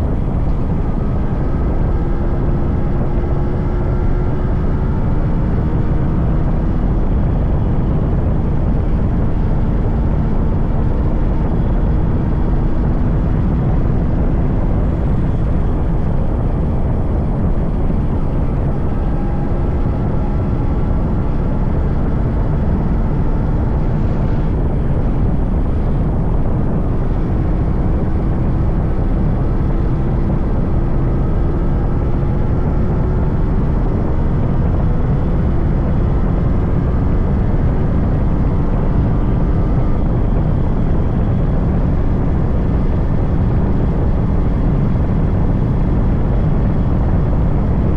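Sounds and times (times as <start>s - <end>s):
motorcycle engine running: 0.0s - 47.9s
wind rush on microphone: 0.0s - 47.9s.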